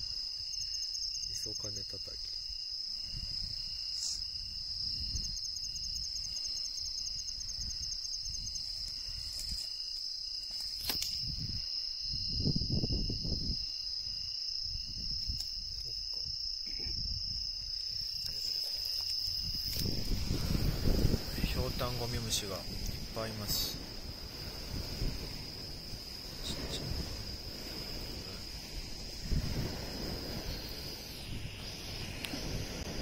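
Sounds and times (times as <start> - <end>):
crickets trilling: 0.0 - 33.0
lower cricket chirps: 0.0 - 33.0.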